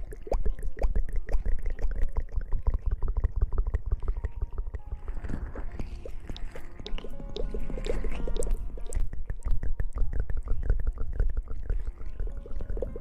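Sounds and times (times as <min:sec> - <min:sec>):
wet crackling and squishing: 0:00.0 - 0:13.0.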